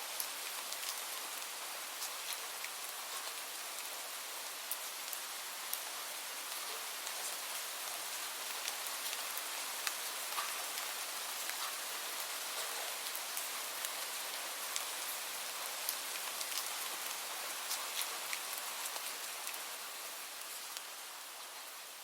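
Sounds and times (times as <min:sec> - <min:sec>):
light rain hissing: 0:00.0 - 0:22.0
raindrops ticking on a surface: 0:00.1 - 0:22.0.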